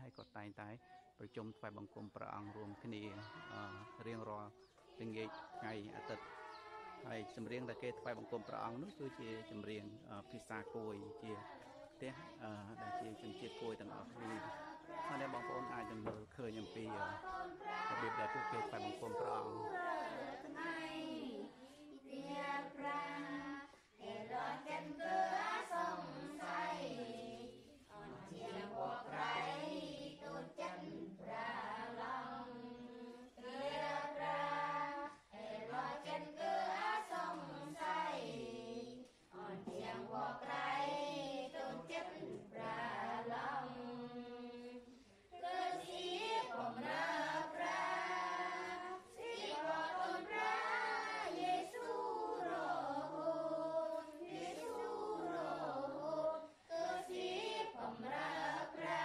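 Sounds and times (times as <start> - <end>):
group singing a hymn unaccompanied: 1.2 - 59.0.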